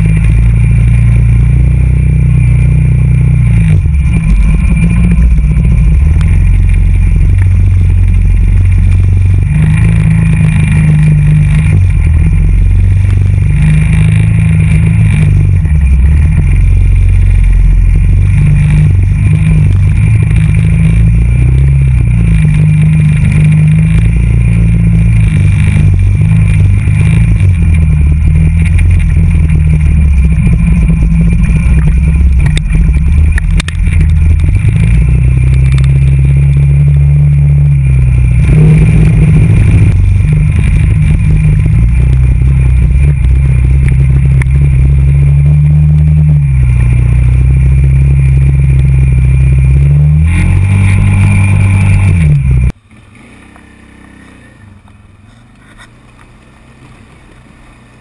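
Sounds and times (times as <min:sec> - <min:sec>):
quad bike engine revving: 0:00.0 - 0:58.0
tyres on gravel: 0:03.4 - 0:58.0.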